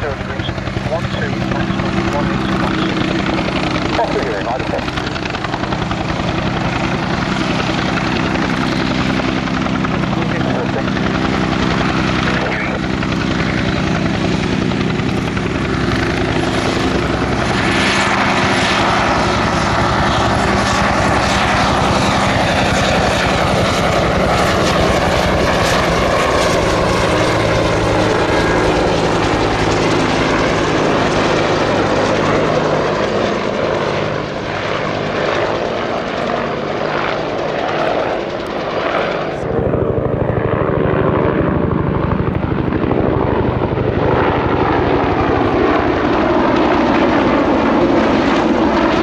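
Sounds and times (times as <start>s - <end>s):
helicopter rotor chop: 0.0s - 49.0s
turbine drone: 0.0s - 49.0s.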